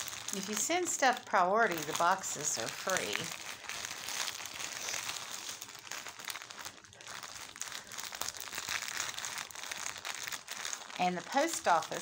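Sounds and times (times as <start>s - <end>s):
plastic mailer bag crinkling: 0.0s - 12.0s.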